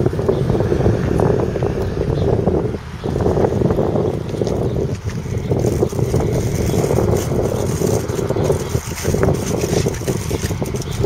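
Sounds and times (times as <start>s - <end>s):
diesel engine rough rumble: 0.0s - 11.0s.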